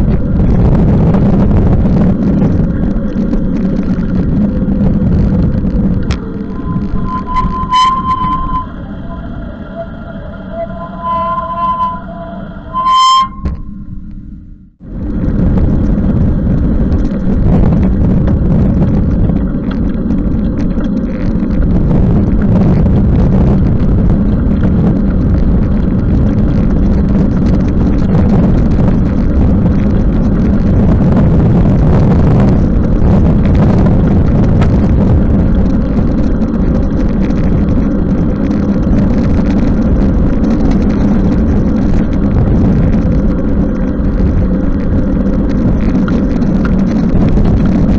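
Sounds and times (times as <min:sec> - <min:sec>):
tyre noise on wet road: 0:00.0 - 0:10.5, 0:14.8 - 0:47.9
wind buffeting microphone: 0:00.0 - 0:47.9.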